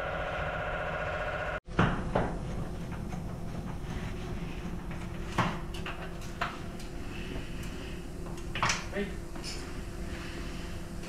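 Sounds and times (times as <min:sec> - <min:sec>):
low workshop hum: 0:00.0 - 0:11.0.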